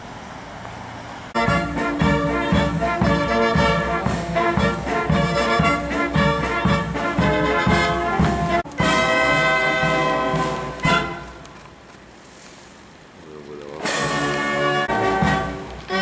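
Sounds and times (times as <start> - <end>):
military band playing: 1.4 - 11.8, 13.4 - 16.0.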